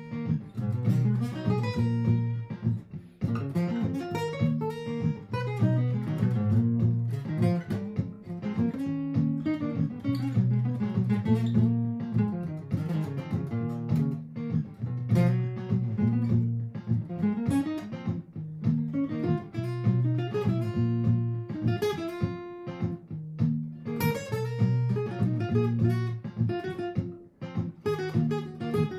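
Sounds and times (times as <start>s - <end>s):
acoustic guitar plucked single notes: 0.0s - 28.9s
looped low guitar chords: 0.0s - 28.9s.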